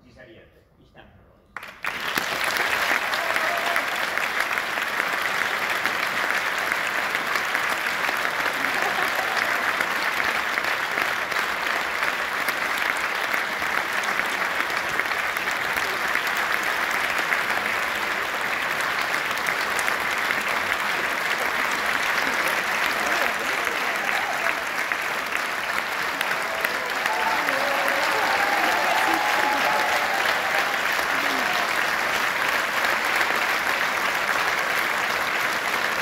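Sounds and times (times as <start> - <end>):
audience applauding: 1.6 - 36.0.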